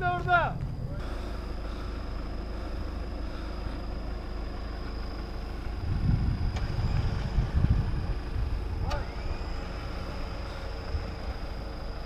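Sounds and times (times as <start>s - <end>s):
off-road engines rumbling: 0.0s - 12.0s.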